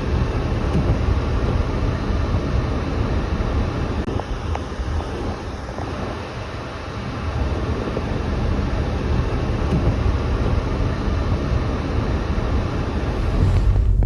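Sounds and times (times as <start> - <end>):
outdoor rushing and rumbling: 0.0 - 14.0.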